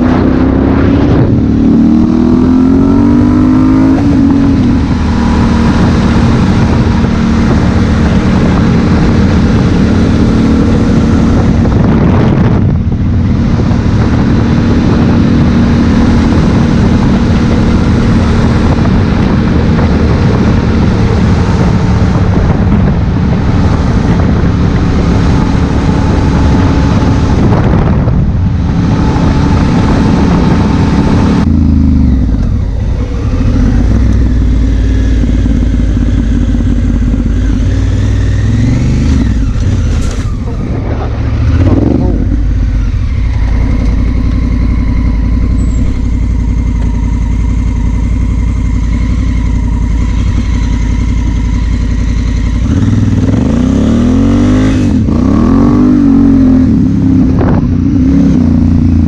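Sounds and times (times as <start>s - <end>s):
motorcycle engine revving and cruising: 0.0s - 59.0s
riding wind noise: 0.0s - 59.0s.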